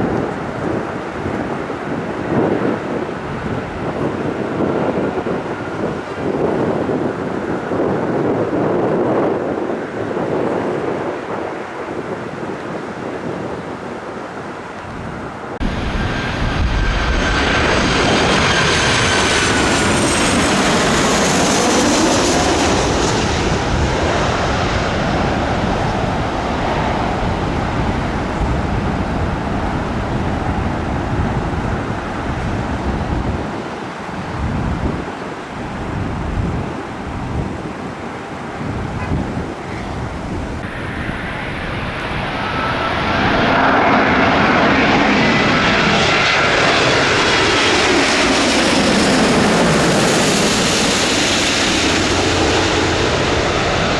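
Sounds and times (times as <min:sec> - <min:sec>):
jet airliner passing: 0:00.0 - 0:53.9
windy roar: 0:00.0 - 0:53.9.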